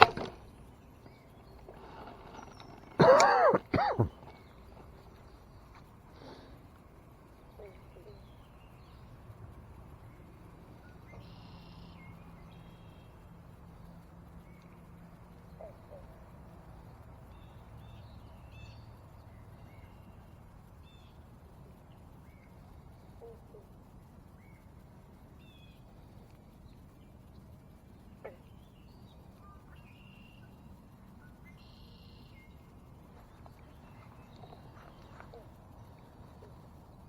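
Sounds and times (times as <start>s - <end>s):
birds chirping: 0.0s - 37.0s
low steady rumble: 0.0s - 37.0s.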